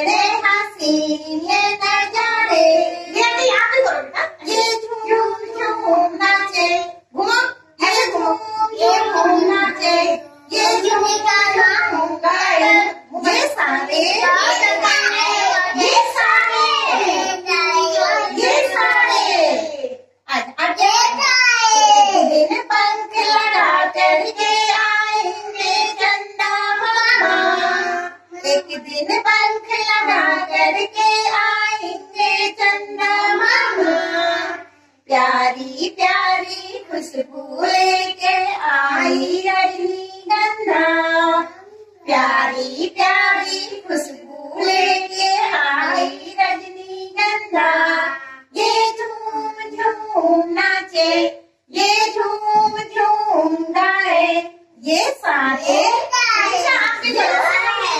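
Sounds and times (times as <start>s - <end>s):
children singing: 0.0s - 3.4s, 4.3s - 20.0s, 20.8s - 54.6s, 55.4s - 57.9s.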